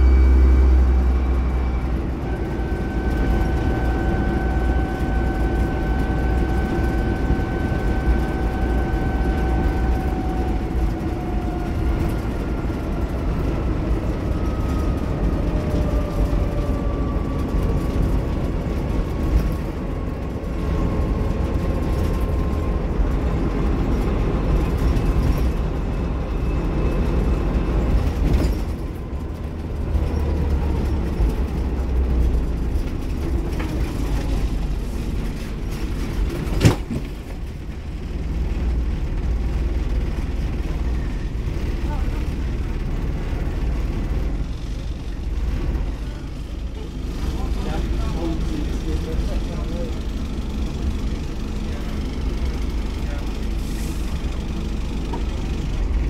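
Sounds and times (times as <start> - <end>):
diesel coach engine rumble: 0.0 - 56.0.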